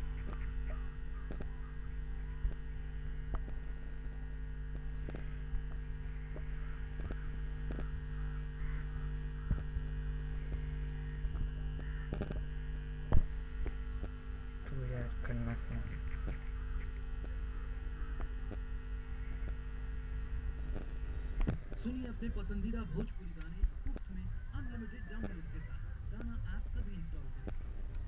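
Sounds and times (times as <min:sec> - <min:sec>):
speaker mains hum: 0:00.0 - 0:28.0.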